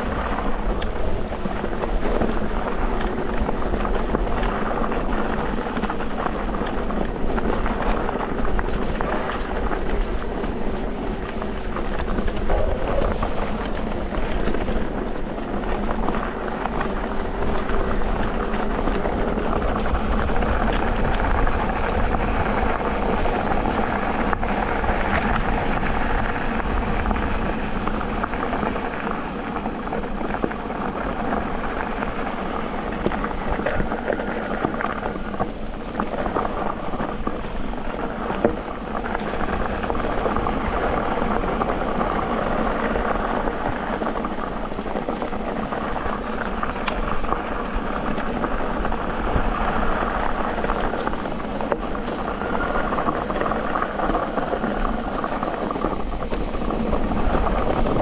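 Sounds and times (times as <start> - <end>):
bike ticks and rattles: 0.0 - 58.0
bike tyres rolling on dirt: 0.0 - 58.0.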